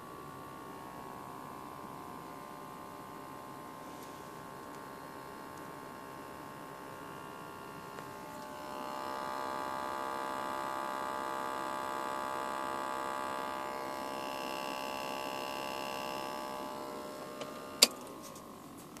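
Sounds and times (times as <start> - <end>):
electrical hum-whine: 0.0 - 19.0.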